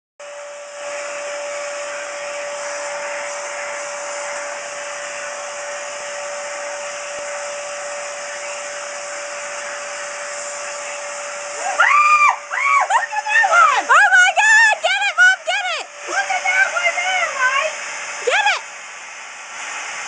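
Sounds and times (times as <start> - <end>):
vacuum cleaner running: 0.2 - 20.0.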